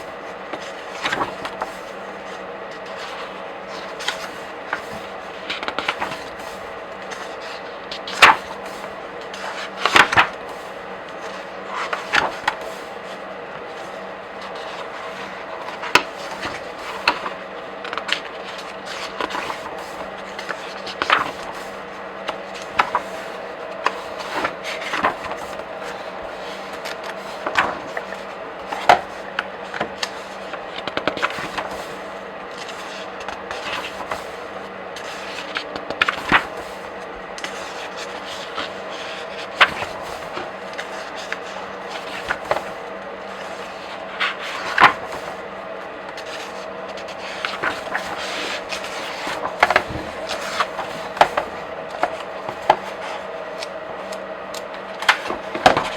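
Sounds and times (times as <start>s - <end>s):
pages flipping: 0.0s - 55.9s
steady hum: 0.0s - 55.9s.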